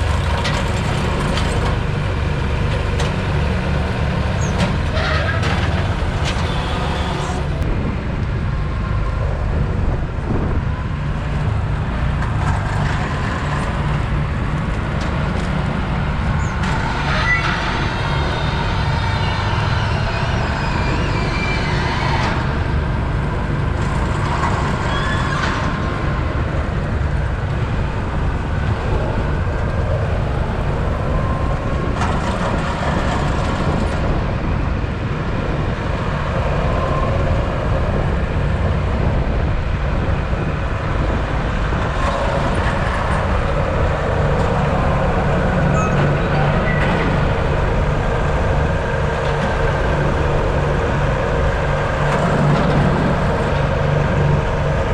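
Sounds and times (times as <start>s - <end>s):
tractor engine running: 0.0s - 21.1s, 22.2s - 54.9s.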